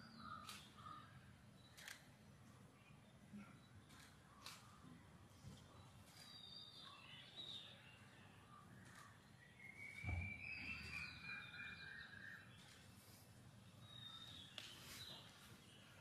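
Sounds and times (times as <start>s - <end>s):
garden ambience: 0.0s - 16.0s.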